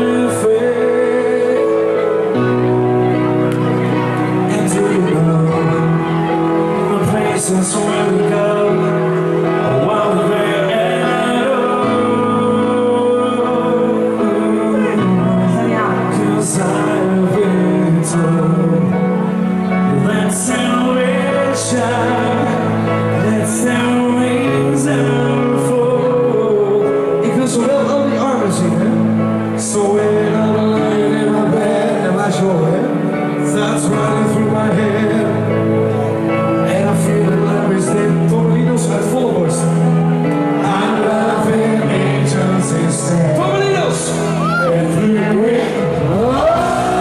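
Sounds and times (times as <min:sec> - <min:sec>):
man singing into microphone: 0:00.0 - 0:47.0.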